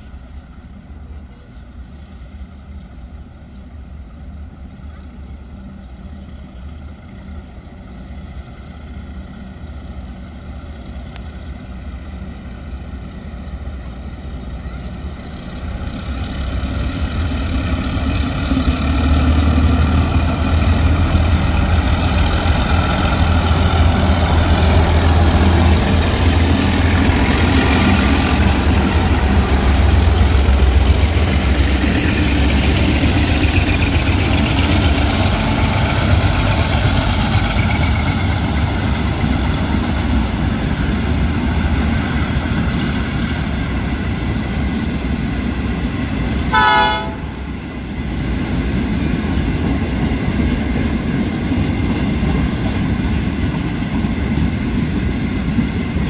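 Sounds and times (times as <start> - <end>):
diesel locomotive engines droning: 0.0 - 56.0
wheel and rail noise: 0.0 - 56.0.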